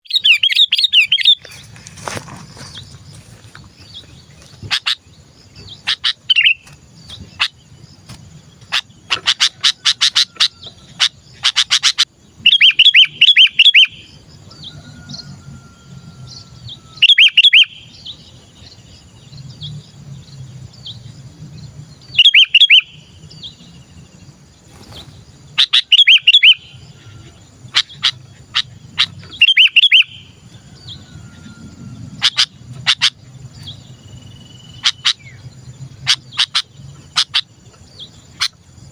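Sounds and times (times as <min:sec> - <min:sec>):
bulbul chattering calls: 0:00.0 - 0:19.8, 0:22.0 - 0:23.7, 0:24.7 - 0:38.9.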